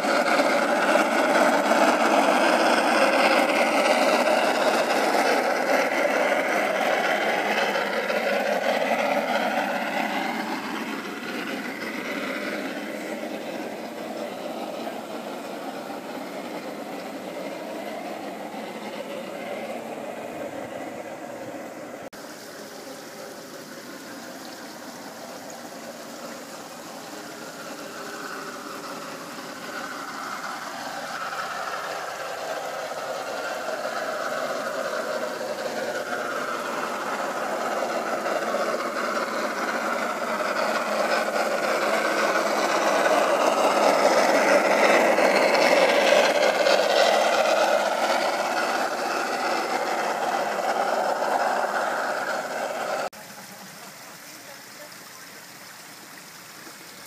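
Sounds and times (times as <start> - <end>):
model train running and rattling: 0.0 - 57.0.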